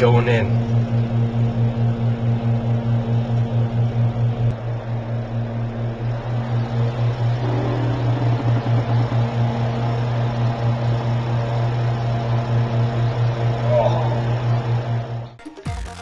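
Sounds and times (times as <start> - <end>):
pulsing low hum: 0.0 - 15.4.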